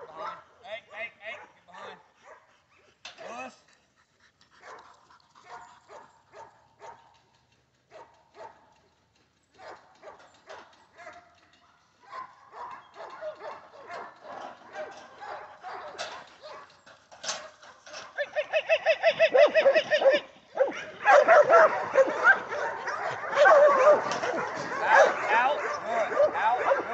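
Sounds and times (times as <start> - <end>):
dogs barking: 1.3 - 2.9, 4.6 - 7.2, 7.9 - 8.7, 9.6 - 26.9.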